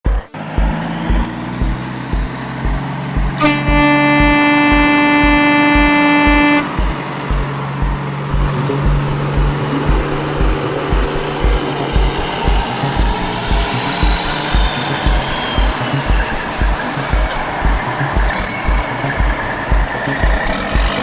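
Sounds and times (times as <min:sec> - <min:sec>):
low thumping beat: 0:00.0 - 0:21.0
steady horn blast: 0:00.1 - 0:21.0.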